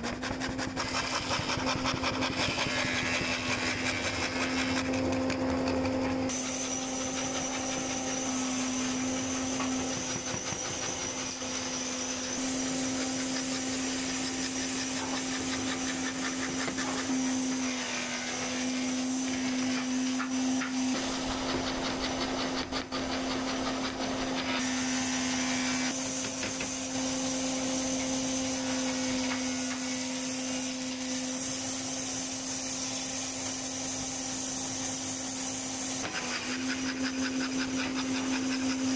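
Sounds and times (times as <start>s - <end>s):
scroll saw cutting wood: 0.0s - 38.9s.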